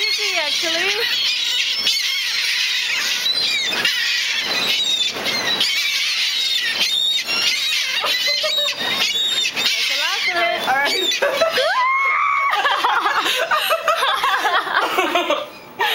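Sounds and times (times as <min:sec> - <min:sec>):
gulls calling: 0:00.0 - 0:15.9.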